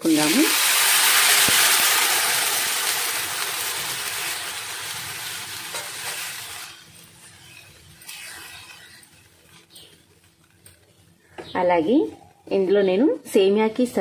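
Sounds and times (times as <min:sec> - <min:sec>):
milk sizzling in hot fat: 0:00.0 - 0:11.3.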